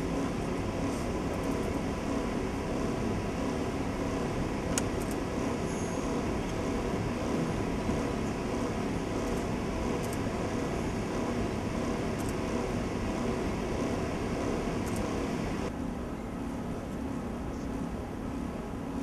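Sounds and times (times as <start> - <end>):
room hum and hiss: 0.0 - 19.0.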